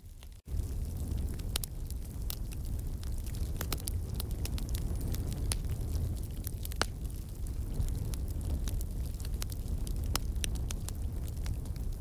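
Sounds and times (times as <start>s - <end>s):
low fire rumble: 0.0s - 12.0s
wood fire crackling: 0.0s - 12.0s.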